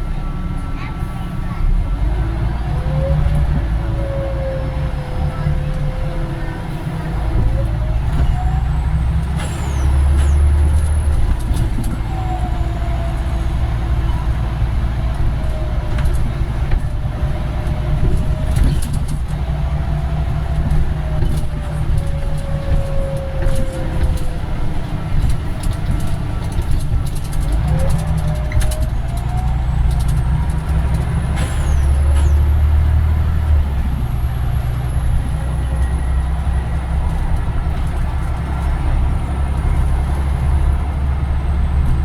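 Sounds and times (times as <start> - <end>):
bus diesel engine droning: 0.0 - 42.0.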